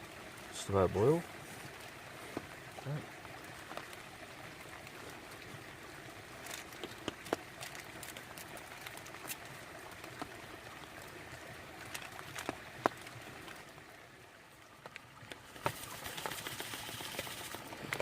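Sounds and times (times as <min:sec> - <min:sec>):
brook babbling: 0:00.0 - 0:18.0.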